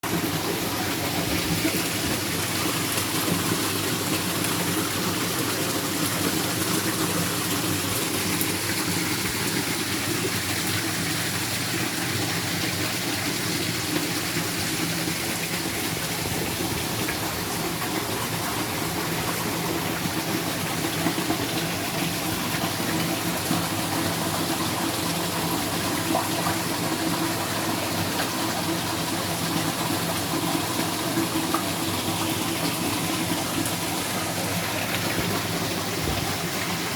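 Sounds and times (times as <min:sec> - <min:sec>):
rushing water: 0:00.0 - 0:36.9.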